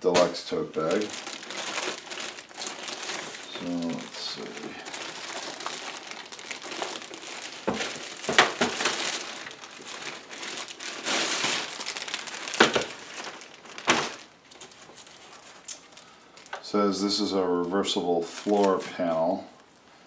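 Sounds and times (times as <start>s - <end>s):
plastic bag crinkling: 0.0s - 19.4s.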